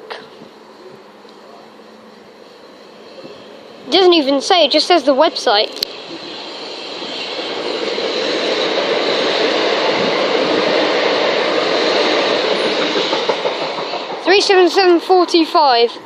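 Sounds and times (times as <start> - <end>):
electric train rumbling past: 0.0 - 16.0.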